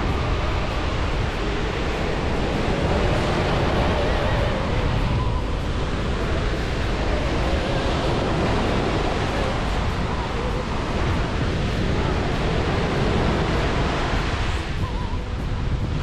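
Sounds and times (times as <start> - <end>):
waves washing up beach: 0.0 - 16.0
wind buffeting microphone: 0.0 - 16.0.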